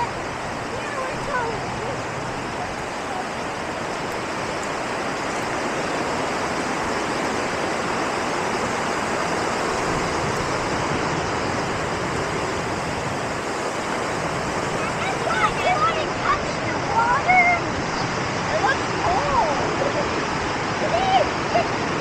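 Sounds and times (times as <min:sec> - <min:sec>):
fast-flowing water rushing: 0:00.0 - 0:22.0.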